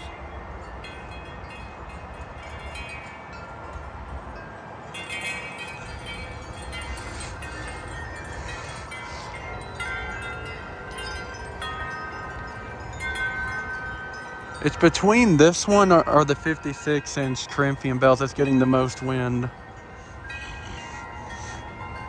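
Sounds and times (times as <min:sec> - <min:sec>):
low wind rumble on microphone: 0:00.0 - 0:22.0
wind chimes ringing: 0:00.0 - 0:22.0.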